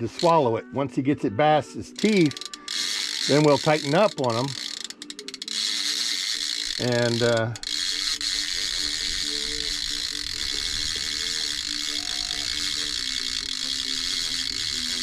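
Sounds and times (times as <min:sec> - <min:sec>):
fishing reel clicker ratcheting: 0:00.0 - 0:00.5, 0:01.9 - 0:15.0.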